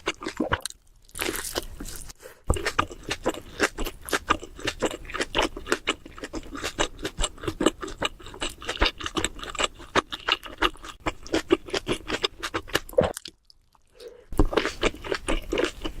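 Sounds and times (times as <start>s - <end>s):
chewing sandwich: 1.1s - 16.0s.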